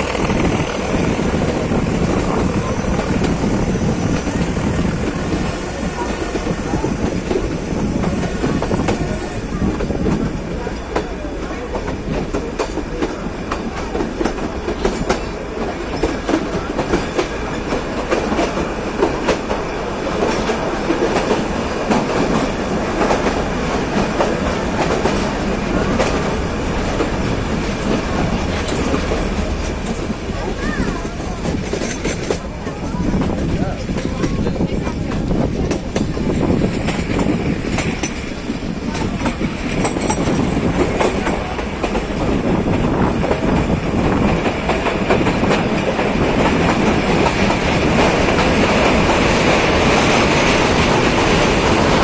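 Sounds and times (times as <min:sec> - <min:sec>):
train coaches rumbling: 0:00.0 - 0:52.0
wheels clacking over rail joints: 0:00.0 - 0:52.0.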